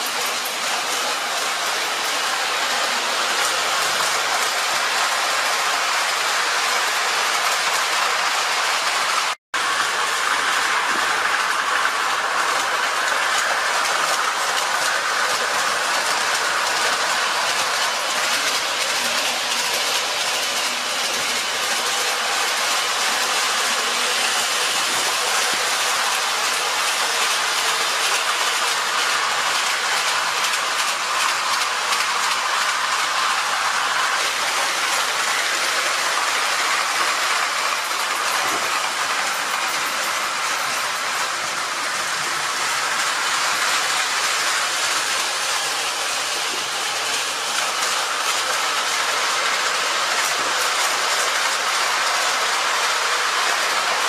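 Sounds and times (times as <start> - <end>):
model train wheels clattering: 0.0 - 54.0.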